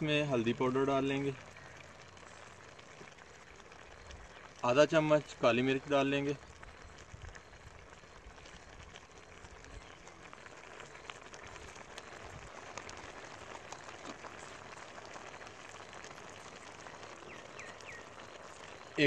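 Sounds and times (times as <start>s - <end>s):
food simmering in pot: 0.0s - 19.0s
wood fire crackles: 0.0s - 19.0s.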